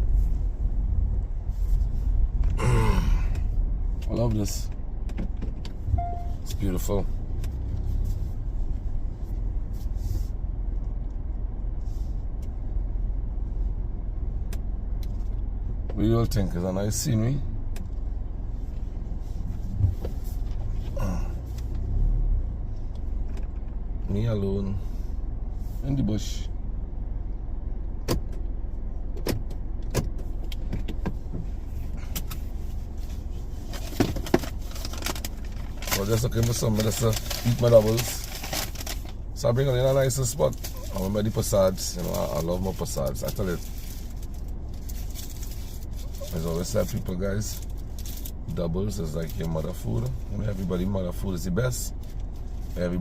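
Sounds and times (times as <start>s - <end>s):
car engine rumble: 0.0s - 53.0s.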